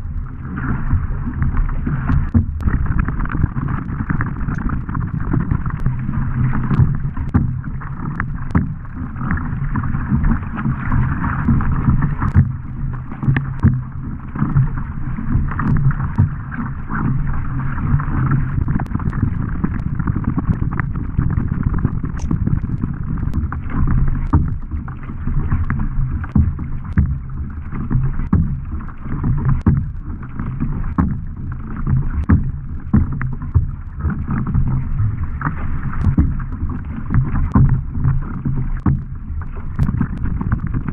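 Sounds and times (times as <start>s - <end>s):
paddle strokes splashing water: 0.0s - 40.9s
steady low rumble: 0.0s - 40.9s
water rushing along hull: 0.0s - 40.9s.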